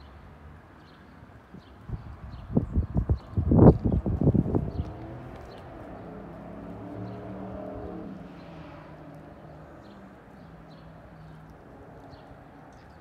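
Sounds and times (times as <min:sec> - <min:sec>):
vehicle engine hum: 0:02.5 - 0:13.0.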